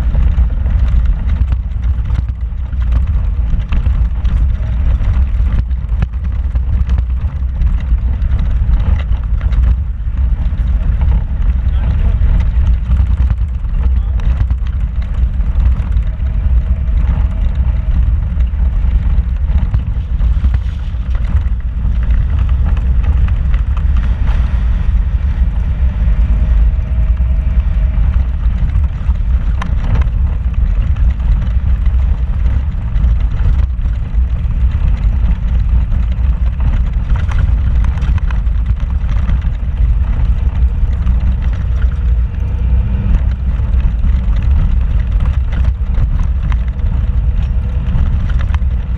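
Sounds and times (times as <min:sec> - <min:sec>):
engine and tyres rumbling: 0:00.0 - 0:48.9
knocks and rattles: 0:00.0 - 0:48.9.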